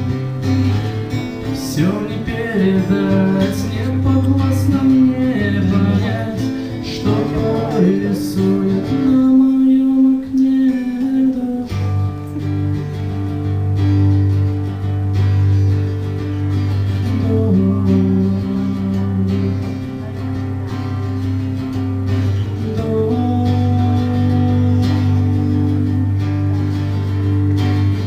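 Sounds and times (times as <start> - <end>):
acoustic guitars playing chords: 0.0 - 28.0.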